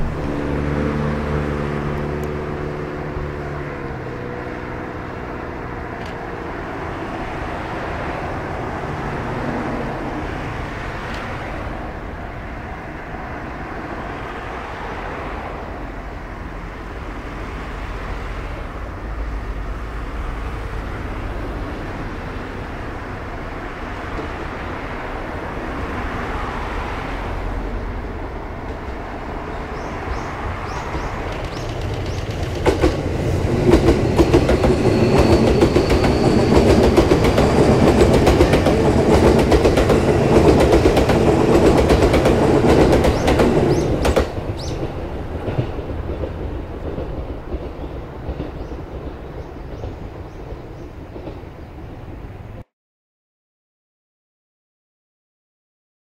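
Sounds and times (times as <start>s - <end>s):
train wheels on track: 0.0s - 52.6s.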